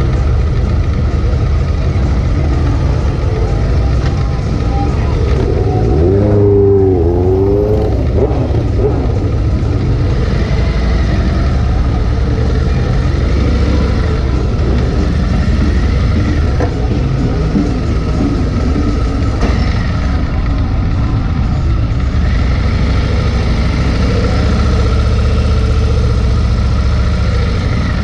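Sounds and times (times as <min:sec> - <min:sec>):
motorcycle engine rumbling: 0:00.0 - 0:28.0.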